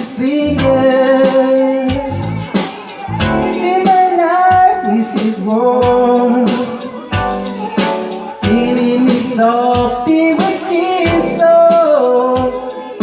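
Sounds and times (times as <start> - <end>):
song with sliding vocals: 0.0 - 13.0.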